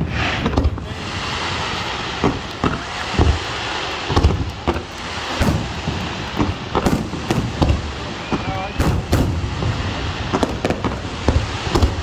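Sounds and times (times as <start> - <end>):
firework shells booming: 0.0 - 12.0
steady hiss: 0.0 - 12.0.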